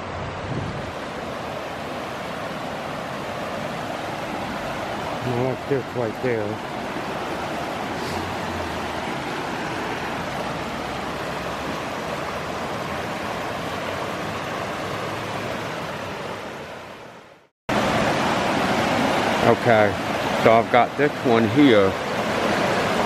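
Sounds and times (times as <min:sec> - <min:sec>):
mountain creek flowing water: 0:00.0 - 0:23.0.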